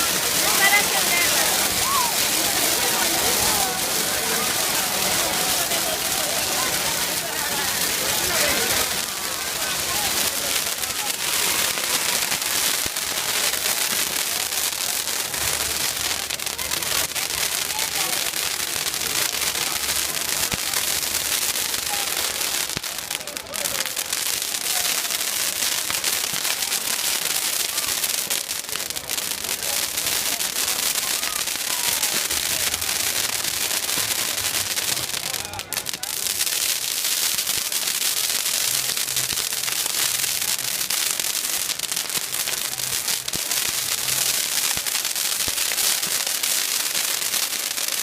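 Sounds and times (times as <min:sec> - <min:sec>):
bonfire crackling and popping: 0:00.0 - 0:48.0
faint crowd voices: 0:00.0 - 0:48.0.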